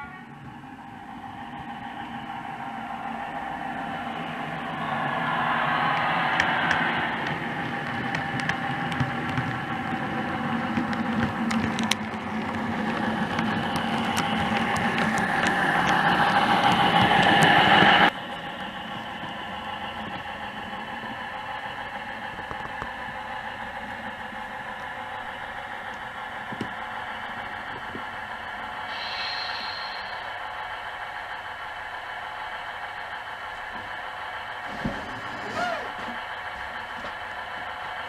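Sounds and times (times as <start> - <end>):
model train diesel engine sound: 0.0 - 38.0
wheels clattering on track: 0.2 - 38.0.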